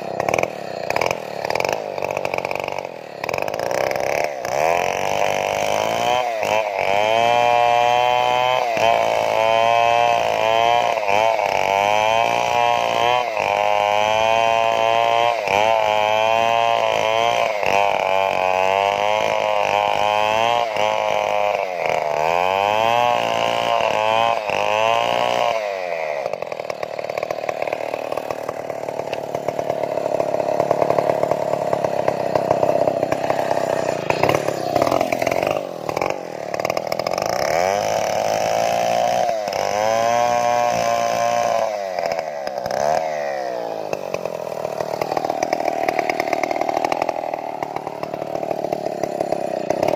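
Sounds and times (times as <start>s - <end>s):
chainsaw cutting timber: 0.0s - 49.9s.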